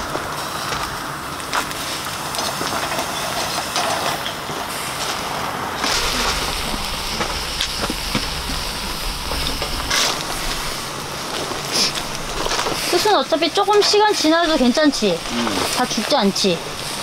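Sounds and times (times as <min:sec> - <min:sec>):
seafood sizzling on a grill: 0:00.0 - 0:17.0
sharp pops and crackles: 0:00.0 - 0:17.0.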